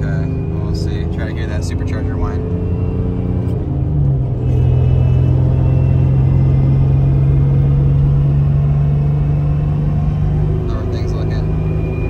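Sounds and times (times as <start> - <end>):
engine droning inside cab: 0.0 - 12.0
road noise: 0.0 - 12.0.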